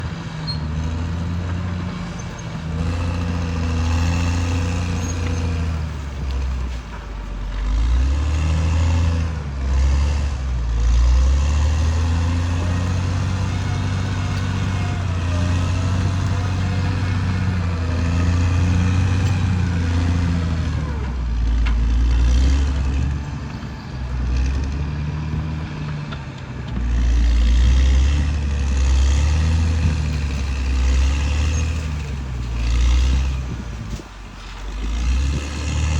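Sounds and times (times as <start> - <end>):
bulldozer diesel engine under load: 0.0 - 35.9.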